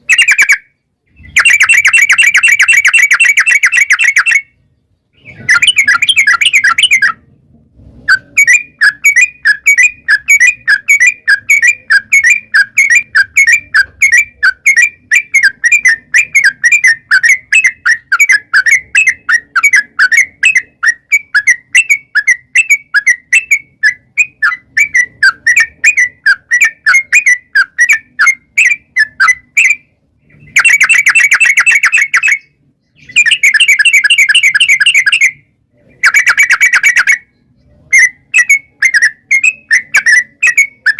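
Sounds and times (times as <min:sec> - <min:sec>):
bird chirping rapidly: 0:00.0 - 0:07.3, 0:08.0 - 0:40.9.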